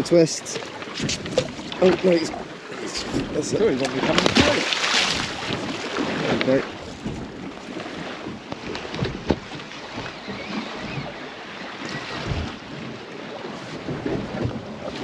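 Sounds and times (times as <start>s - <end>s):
wind buffeting microphone: 0.9s - 15.0s.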